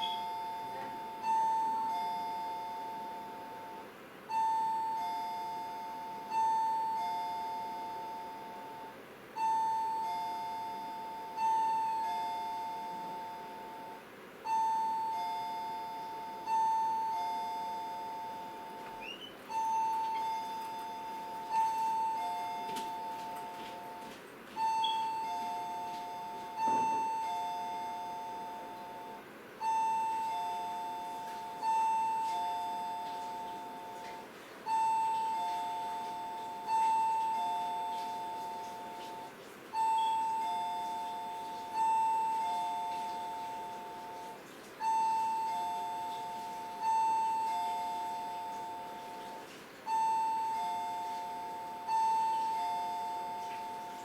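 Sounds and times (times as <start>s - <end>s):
two-note chime ringing: 0.0s - 54.0s.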